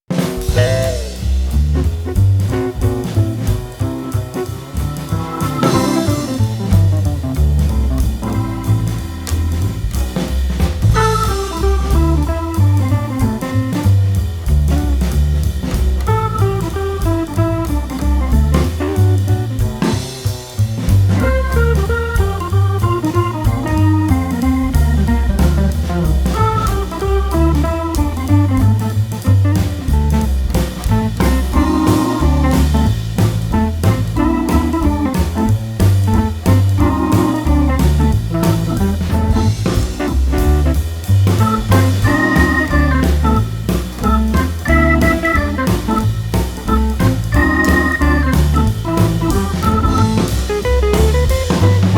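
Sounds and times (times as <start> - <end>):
band playing upbeat groove: 0.0 - 51.9.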